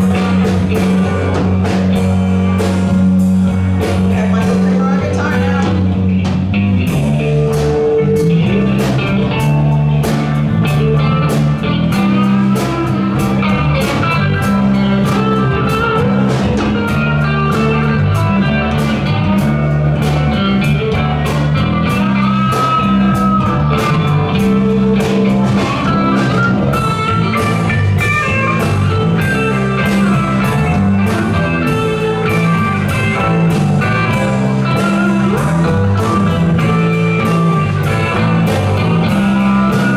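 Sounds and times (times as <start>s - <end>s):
bass notes: 0.0s - 39.9s
drum kit beat: 0.0s - 39.9s
guitar melody: 0.0s - 39.9s.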